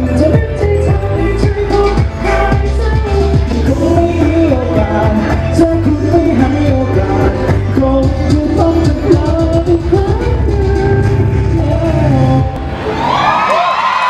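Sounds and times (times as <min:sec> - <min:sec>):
man singing into microphone: 0:00.0 - 0:12.6
music with bass and drums: 0:00.0 - 0:12.6.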